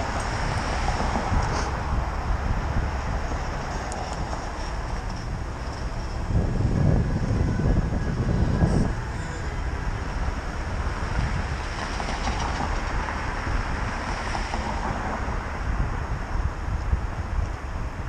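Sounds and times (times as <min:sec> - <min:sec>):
street traffic: 0:00.0 - 0:18.0
wind rumbling on microphone: 0:00.0 - 0:18.0.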